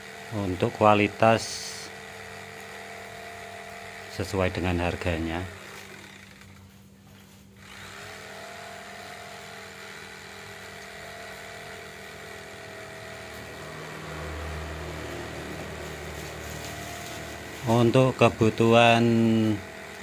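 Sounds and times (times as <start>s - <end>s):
electric jigsaw cutting wood: 0.0s - 6.8s, 7.6s - 20.0s.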